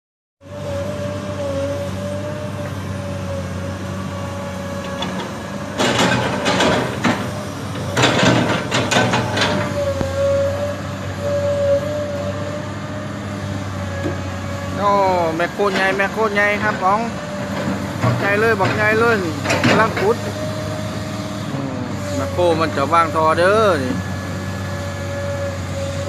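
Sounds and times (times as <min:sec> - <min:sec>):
excavator diesel engine whining: 0:00.4 - 0:26.0
harsh machine working noise: 0:00.4 - 0:26.0.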